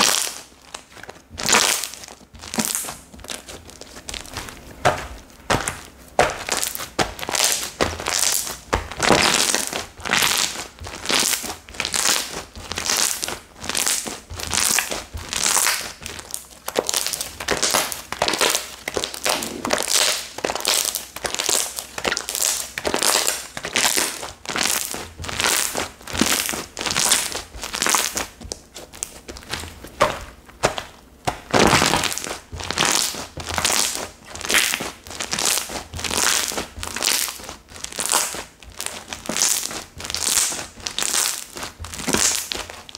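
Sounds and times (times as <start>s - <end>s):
slime squished by hand: 0.0s - 42.9s.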